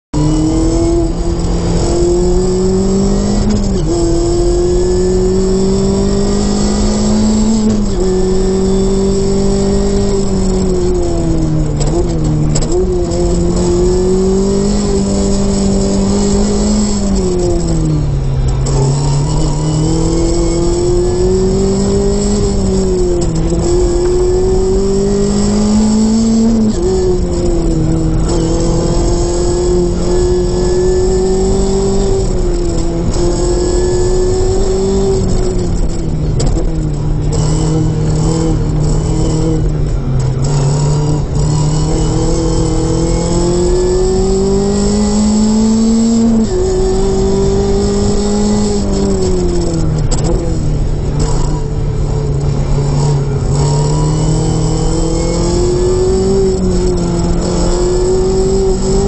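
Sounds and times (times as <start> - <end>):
car engine revving: 0.2 - 59.0.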